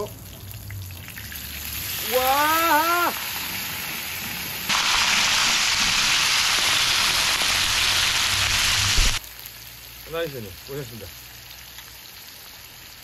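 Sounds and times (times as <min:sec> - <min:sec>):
meat sizzling on a griddle: 0:00.6 - 0:13.0.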